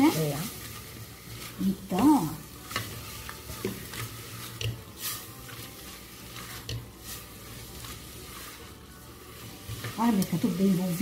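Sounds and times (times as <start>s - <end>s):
meat sizzling in a pot: 0.0s - 11.0s
spatula scraping a pot: 0.0s - 11.0s.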